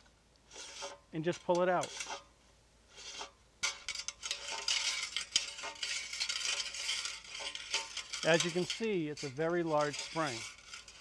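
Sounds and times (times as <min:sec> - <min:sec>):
steel spring uncoiling with scraping: 0:00.0 - 0:11.0.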